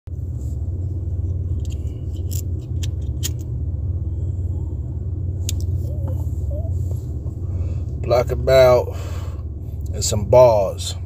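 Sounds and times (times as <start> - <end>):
car engine rumble inside cabin: 0.1 - 11.0.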